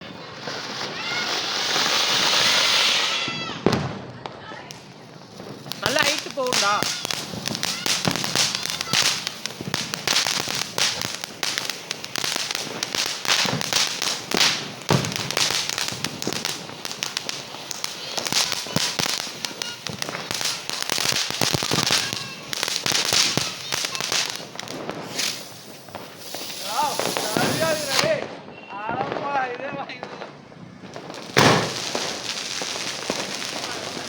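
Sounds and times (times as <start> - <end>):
firecrackers cracking and banging: 0.0 - 34.0.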